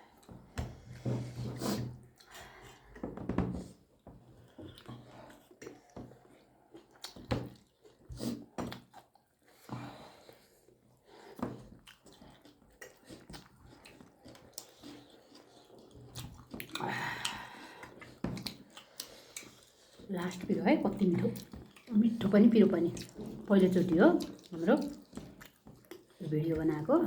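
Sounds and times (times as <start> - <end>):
people chewing: 0.0 - 27.0.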